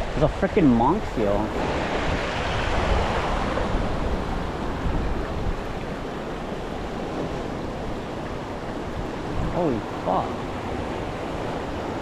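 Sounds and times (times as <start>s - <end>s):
ocean surf washing in: 0.0s - 12.0s
wind noise on microphone: 0.0s - 12.0s.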